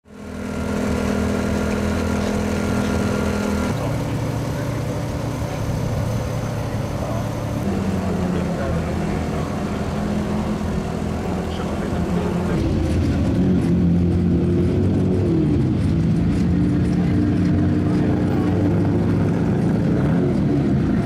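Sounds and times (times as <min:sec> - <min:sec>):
race car engine at steady revs: 0:00.0 - 0:21.0.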